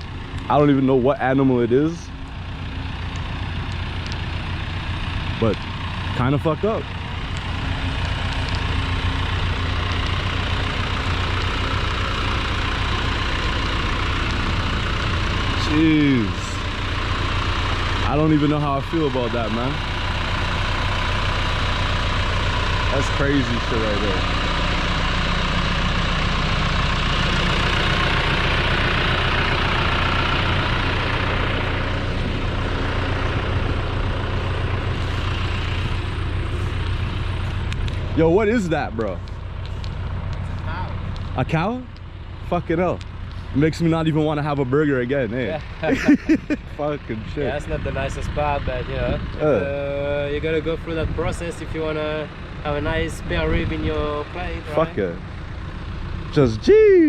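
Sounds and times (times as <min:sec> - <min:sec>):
motor engine idling: 0:00.0 - 0:57.0.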